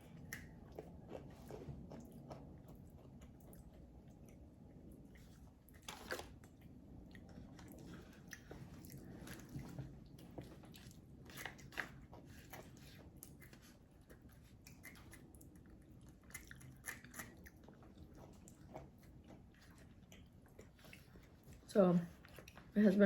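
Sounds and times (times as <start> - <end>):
chewing and biting: 0.0 - 22.8.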